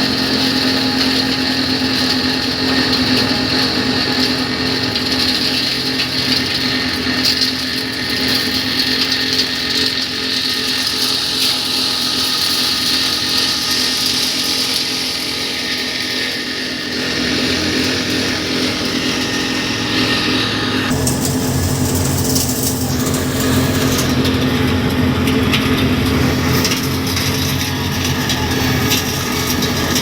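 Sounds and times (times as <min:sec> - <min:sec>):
machine grinding whine: 0:00.0 - 0:30.0.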